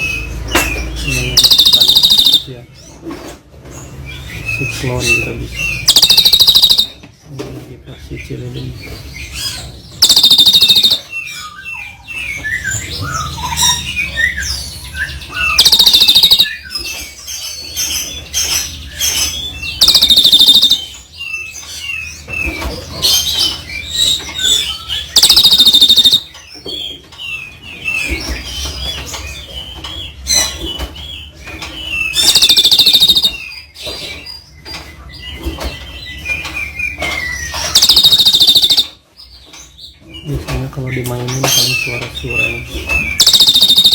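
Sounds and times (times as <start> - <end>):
songbirds chirping and whistling: 0.0 - 43.9.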